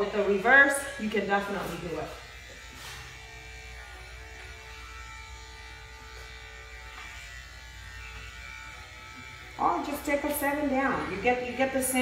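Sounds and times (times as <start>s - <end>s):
electric clippers buzzing: 0.0s - 12.0s.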